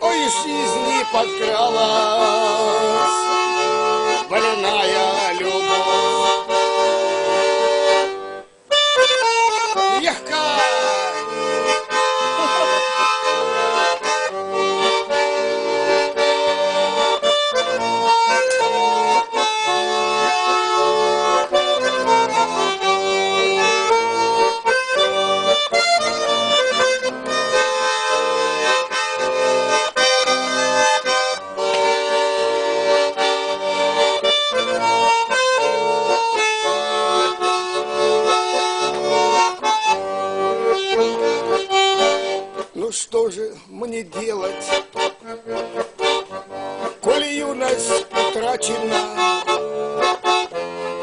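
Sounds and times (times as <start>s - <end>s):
button accordion playing chords: 0.0s - 51.0s
steady rhythmic backing: 0.0s - 51.0s.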